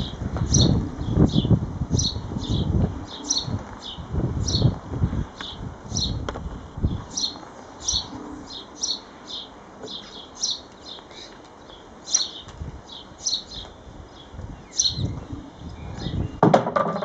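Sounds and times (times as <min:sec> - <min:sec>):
songbird chirping: 0:00.0 - 0:16.5.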